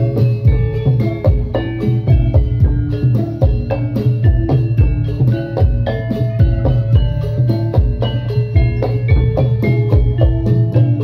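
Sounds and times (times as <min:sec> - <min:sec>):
drum strikes: 0:00.0 - 0:11.0
gamelan music: 0:00.0 - 0:11.0
ringing metallophone notes: 0:00.0 - 0:11.0.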